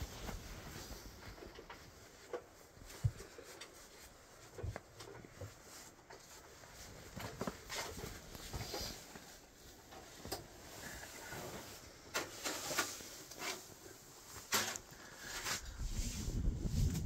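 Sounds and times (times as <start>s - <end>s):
fabric brushing: 0.0s - 17.0s.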